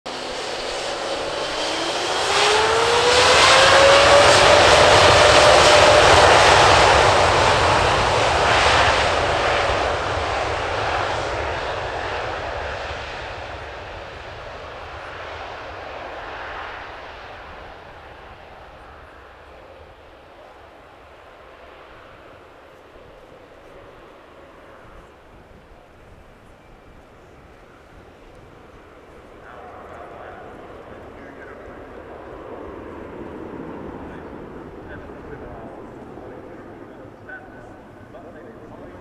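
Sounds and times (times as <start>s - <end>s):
broad jet noise: 0.1s - 39.0s
jet engine whine: 0.1s - 39.0s.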